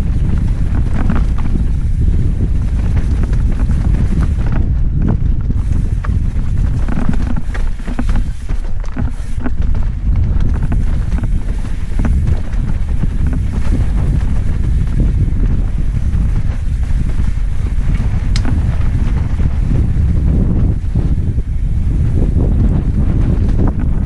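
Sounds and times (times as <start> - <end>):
bike rattling over rough ground: 0.0 - 24.0
low rumble: 0.0 - 24.0
wind rushing over microphone: 0.0 - 24.0.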